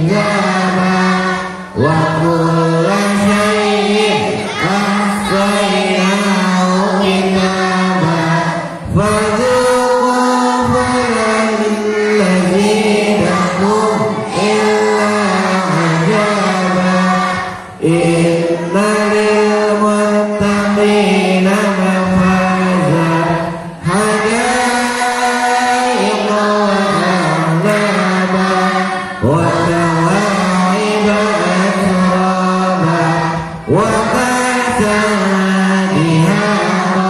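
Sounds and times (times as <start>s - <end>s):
voices chanting recitation: 0.0s - 37.0s.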